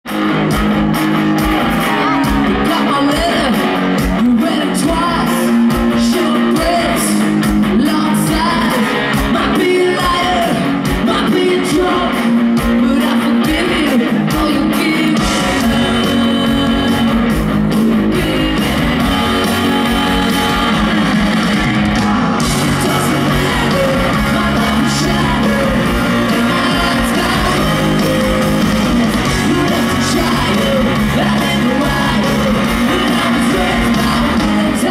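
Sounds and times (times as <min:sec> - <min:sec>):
live ska-punk band: 0:00.1 - 0:34.9
woman singing lead: 0:04.2 - 0:34.9.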